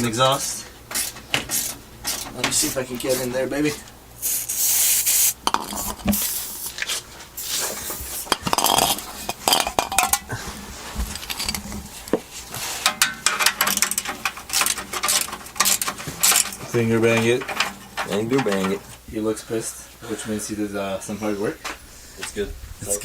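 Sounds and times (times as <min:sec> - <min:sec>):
metallic clanking and scraping: 0:00.0 - 0:03.9, 0:05.5 - 0:20.5.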